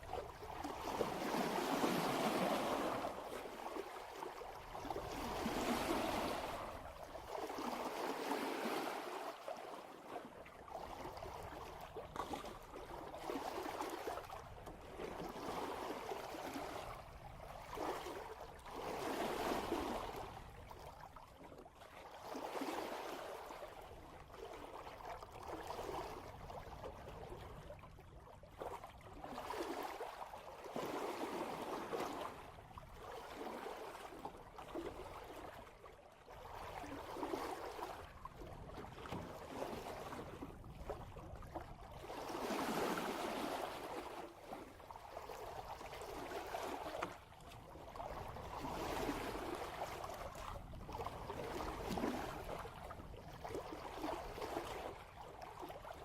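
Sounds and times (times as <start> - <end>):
water gurgling along boat hull: 0.0 - 56.0.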